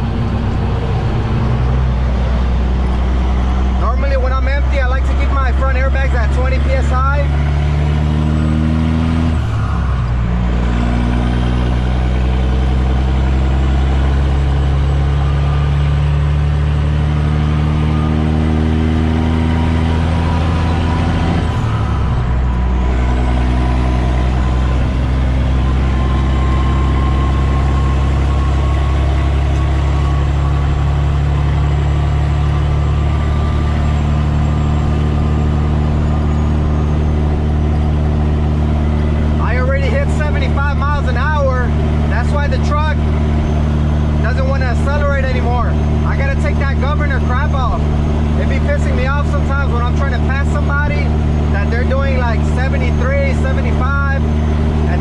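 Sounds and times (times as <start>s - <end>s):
truck engine drone: 0.0s - 55.0s.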